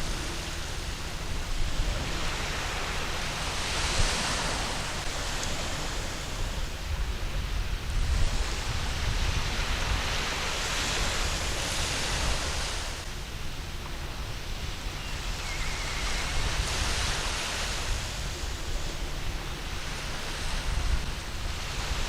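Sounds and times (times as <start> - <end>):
waves breaking on a beach: 0.0 - 22.0.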